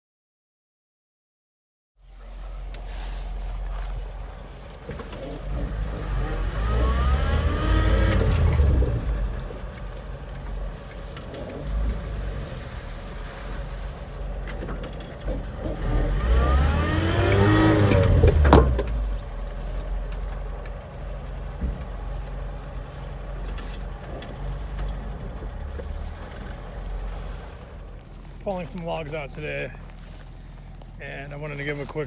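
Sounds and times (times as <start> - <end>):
truck engine running and revving: 2.0 - 32.0.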